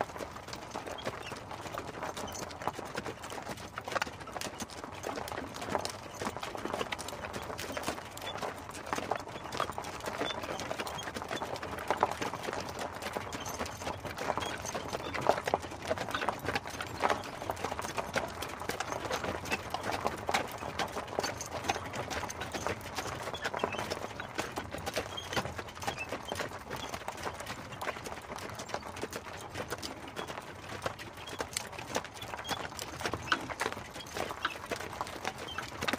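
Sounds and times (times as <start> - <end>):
horse hooves clip-clopping: 0.0 - 35.9.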